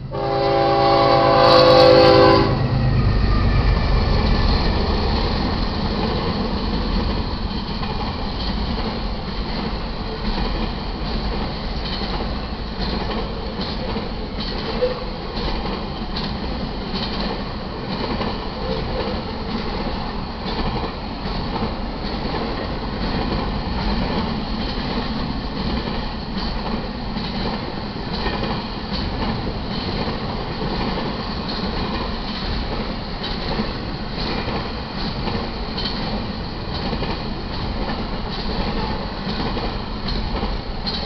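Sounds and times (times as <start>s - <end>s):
freight train cars rumbling and rattling: 0.0s - 41.0s
wheels clicking on track: 4.1s - 41.0s.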